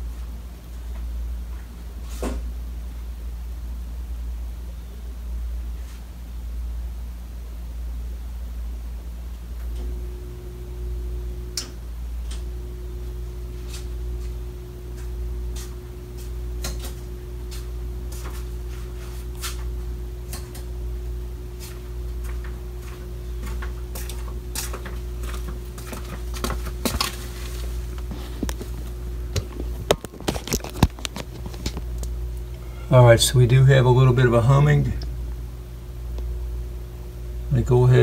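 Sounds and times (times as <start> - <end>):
furnace electrical hum: 0.0 - 38.0.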